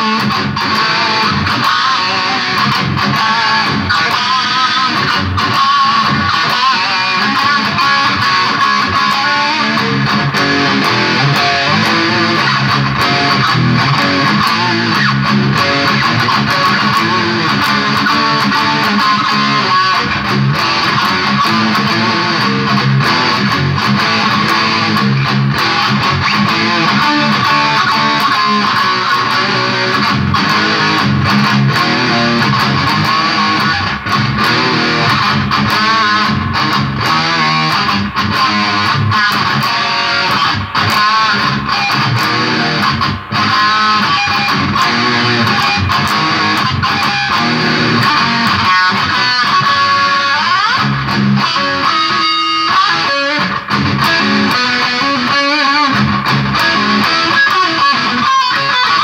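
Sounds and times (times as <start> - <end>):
electric guitar through amplifier: 0.0 - 59.0.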